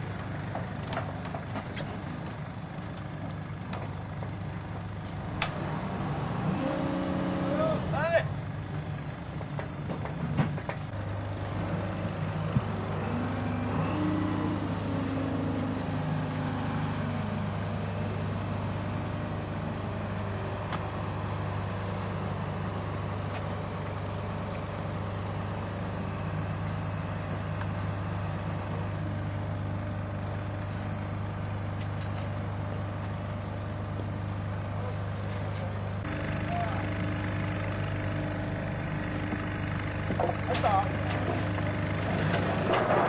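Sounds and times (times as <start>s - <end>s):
crane engine humming: 0.0s - 43.0s.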